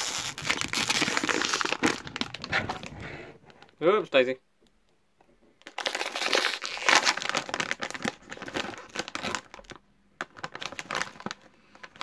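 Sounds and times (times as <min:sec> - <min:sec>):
plastic snack bag crinkling: 0:00.0 - 0:03.8, 0:05.6 - 0:12.0.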